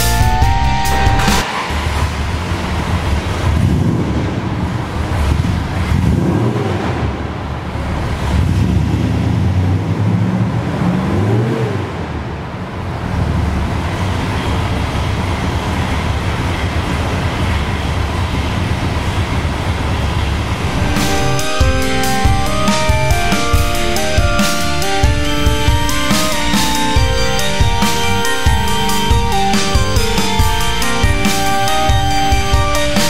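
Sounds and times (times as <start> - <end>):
car engine revving and idling: 1.4 - 33.0.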